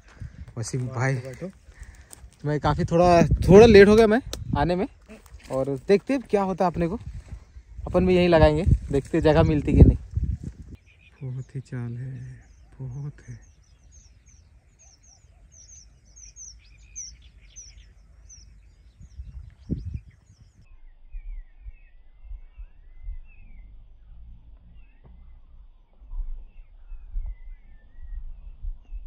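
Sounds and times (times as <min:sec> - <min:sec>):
wind rumble on microphone: 0:00.0 - 0:10.8, 0:16.1 - 0:29.0
birds chirping: 0:00.0 - 0:29.0.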